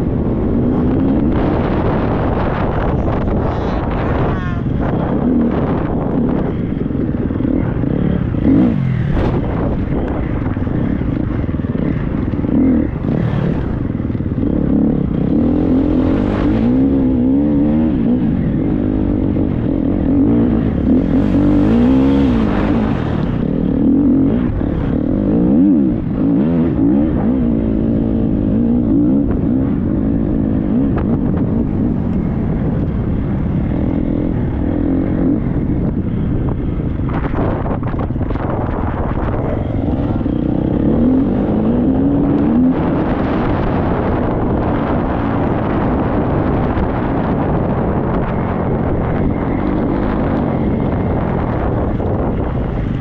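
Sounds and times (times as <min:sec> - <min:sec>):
motocross bike engine revving: 0:00.0 - 0:35.9, 0:38.4 - 0:53.0.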